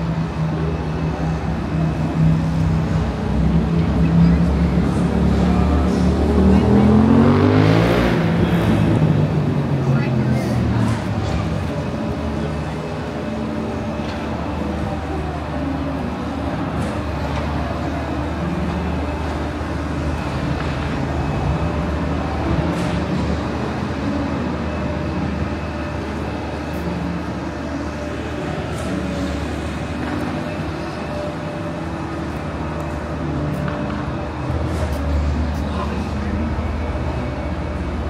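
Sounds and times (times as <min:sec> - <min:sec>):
faint voices: 0:00.0 - 0:38.0
vehicle rumble: 0:00.0 - 0:38.0.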